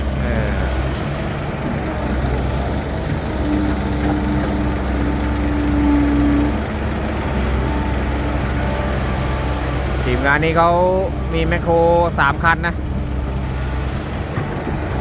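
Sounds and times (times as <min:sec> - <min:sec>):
heavy diesel machinery running: 0:00.0 - 0:15.0
steady machine whine: 0:00.0 - 0:15.0.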